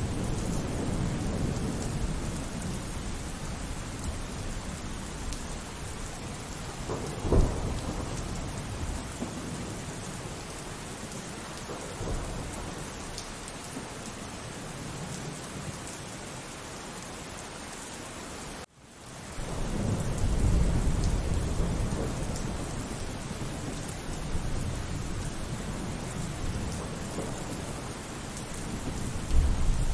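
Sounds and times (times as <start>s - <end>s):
low rumble of thunder: 0.0s - 15.8s, 19.4s - 29.9s
steady rain falling: 0.0s - 29.9s.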